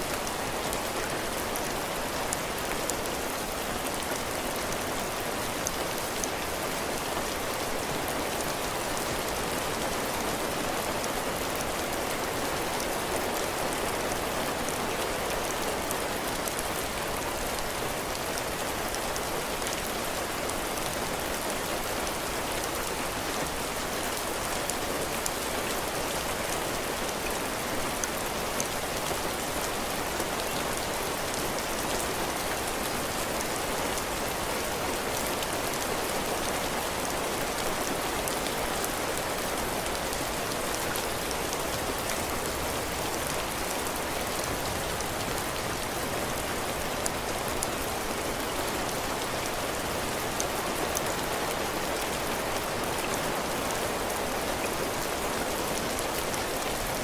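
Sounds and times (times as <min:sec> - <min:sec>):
heavy rain on roof: 0:00.0 - 0:57.0.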